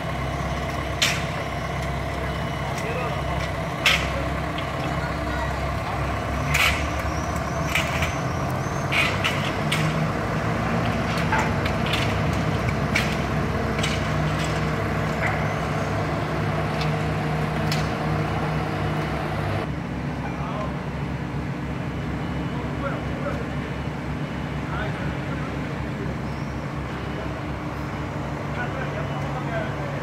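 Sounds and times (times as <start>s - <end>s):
crane diesel engine running: 0.0s - 30.0s.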